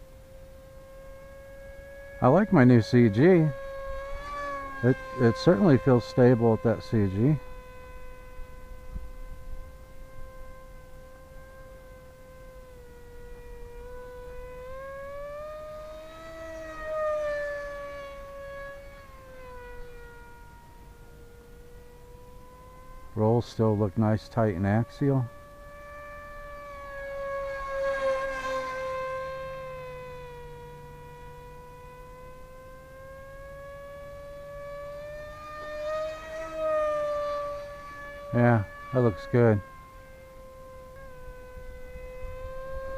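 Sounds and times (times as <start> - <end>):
model plane propeller whining: 0.0 - 42.9.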